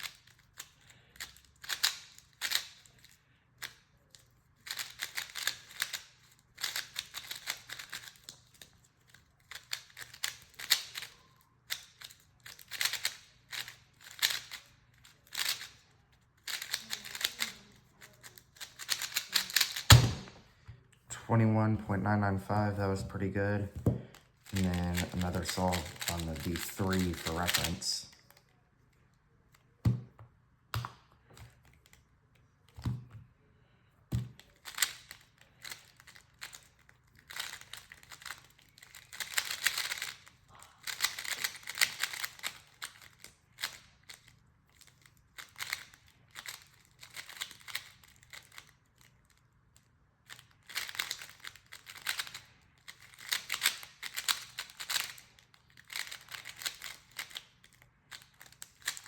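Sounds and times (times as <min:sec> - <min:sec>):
speedcube plastic clicking: 0:00.0 - 0:20.2, 0:24.1 - 0:28.4, 0:34.3 - 0:49.4, 0:50.3 - 0:59.0.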